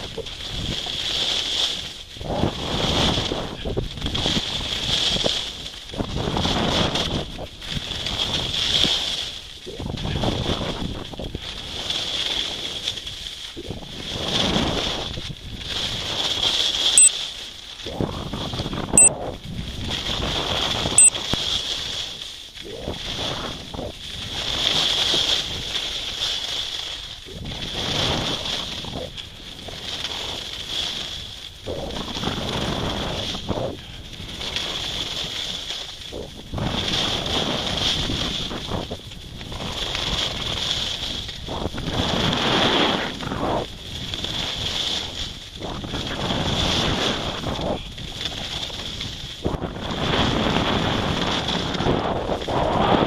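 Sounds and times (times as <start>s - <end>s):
wind rushing over microphone: 0.0s - 17.1s, 17.8s - 26.2s, 27.0s - 53.0s
skis scraping on snow: 0.0s - 53.0s.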